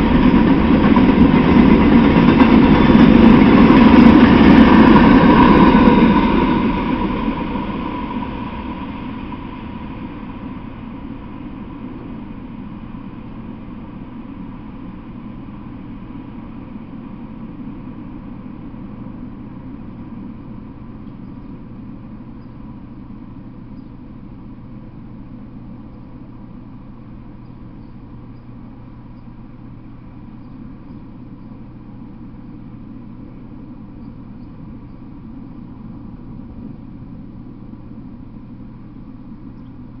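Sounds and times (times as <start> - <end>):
low hum and hiss: 0.0 - 40.0.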